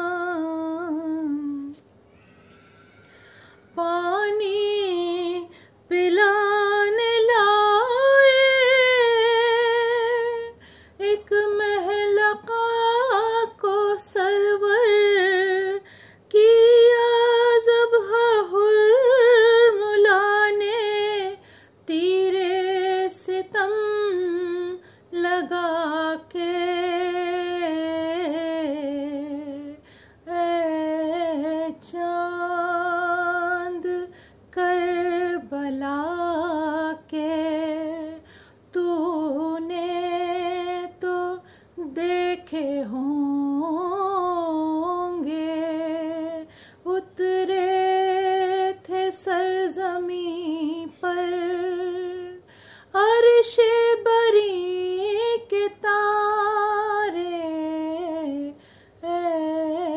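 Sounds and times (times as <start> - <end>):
woman singing unaccompanied: 0.0 - 1.9, 3.4 - 59.9.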